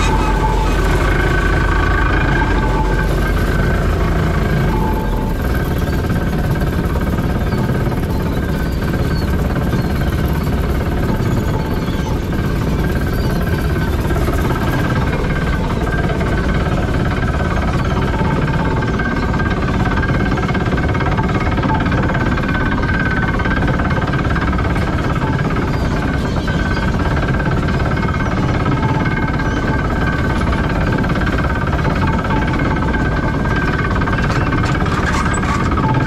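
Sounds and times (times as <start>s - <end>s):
deck winch running: 0.0s - 36.0s
diesel engine running: 0.0s - 36.0s.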